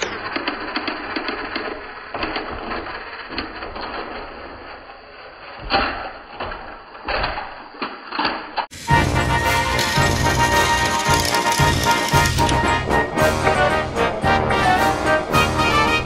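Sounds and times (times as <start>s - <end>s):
toy trains clattering off track: 0.0s - 14.1s
toy trains whirring and rattling: 0.0s - 16.0s.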